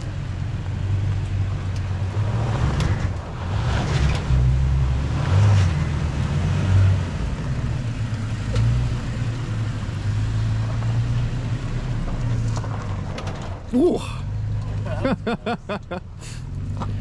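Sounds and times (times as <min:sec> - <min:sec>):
pickup truck engine rumbling: 0:00.0 - 0:17.0.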